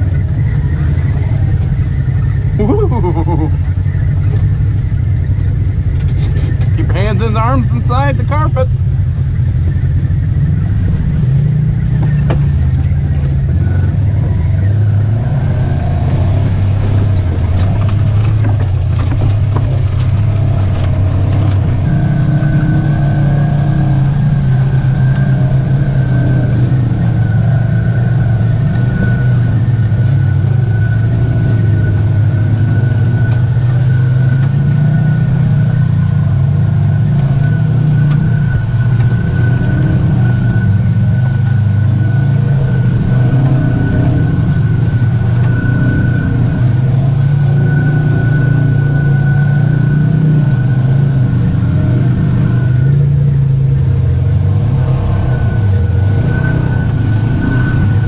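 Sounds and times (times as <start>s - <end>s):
off-road vehicle engine: 0.0s - 58.0s
steady high whine: 0.0s - 58.0s.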